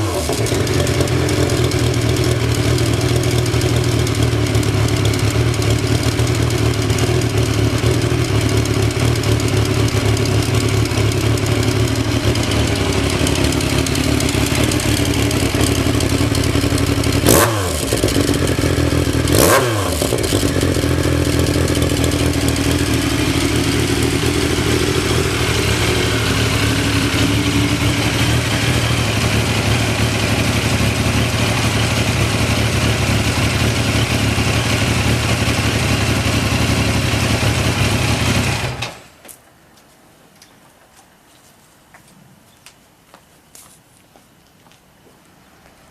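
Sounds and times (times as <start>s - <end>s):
motorcycle engine idling: 0.0s - 38.8s.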